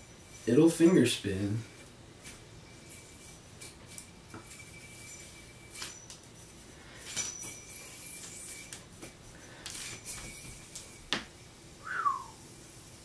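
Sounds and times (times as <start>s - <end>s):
yo-yo spinning with high whine: 0.0s - 13.0s.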